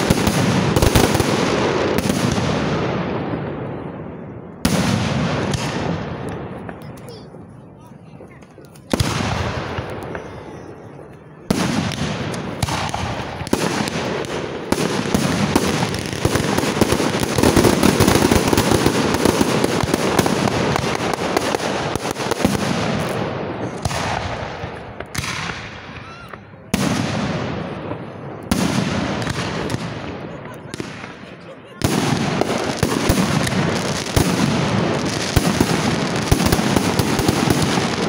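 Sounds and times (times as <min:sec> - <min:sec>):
fireworks crackling and banging: 0:00.0 - 0:38.0.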